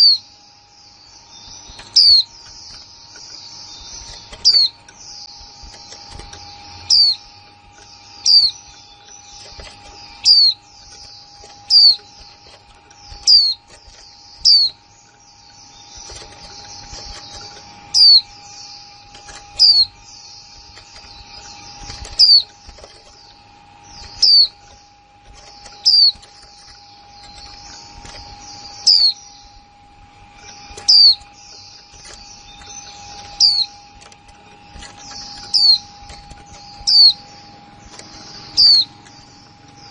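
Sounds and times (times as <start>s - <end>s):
small birds twittering: 0.0s - 39.9s.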